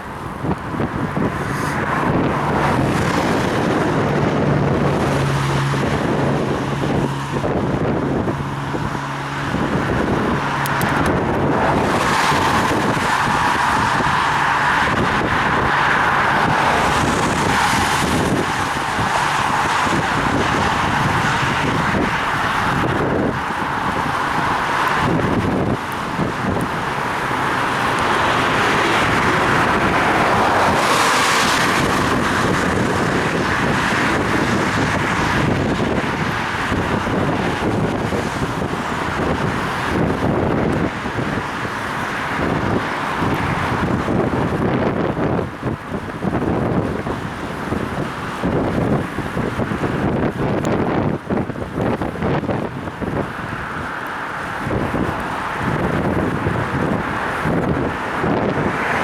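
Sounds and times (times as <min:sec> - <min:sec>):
motor traffic: 0:00.0 - 0:59.0
tyres on wet road: 0:00.0 - 0:59.0
vehicle engine humming: 0:00.0 - 0:59.0
wind rushing on microphone: 0:00.0 - 0:59.0.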